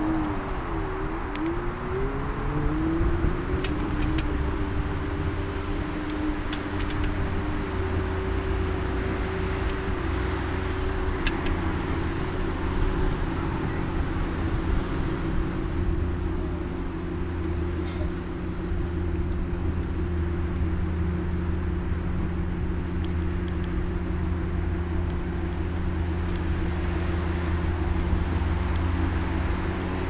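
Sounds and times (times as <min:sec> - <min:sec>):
tyre and wind rumble: 0:00.0 - 0:30.0.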